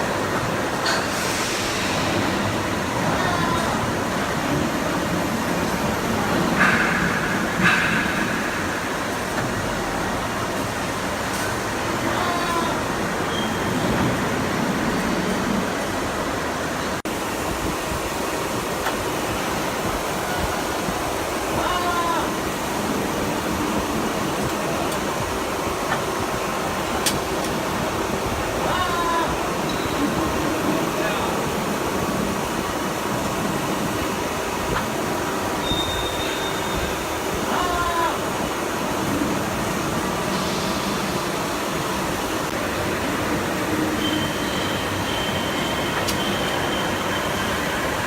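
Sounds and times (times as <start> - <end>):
machinery whooshing hum: 0.0 - 48.0.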